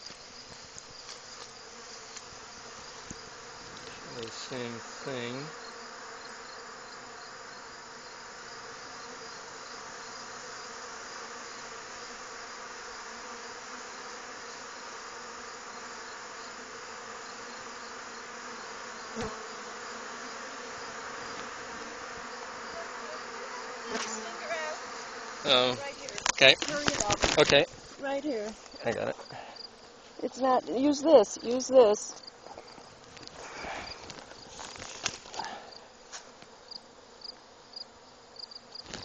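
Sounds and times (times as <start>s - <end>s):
honey bees buzzing: 0.0s - 39.0s.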